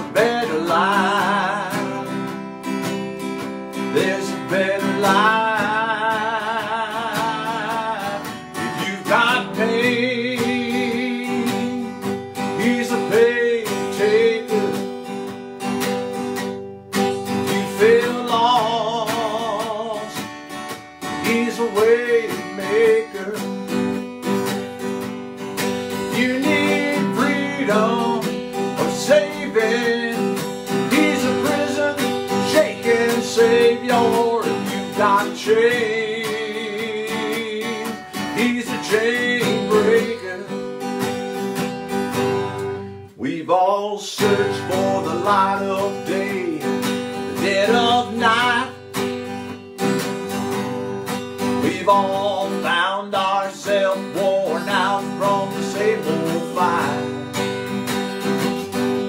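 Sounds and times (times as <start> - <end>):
man singing: 0.0 - 15.4, 17.1 - 24.6, 25.4 - 41.5, 42.1 - 49.5, 50.1 - 57.7
acoustic guitar strumming: 0.0 - 59.0.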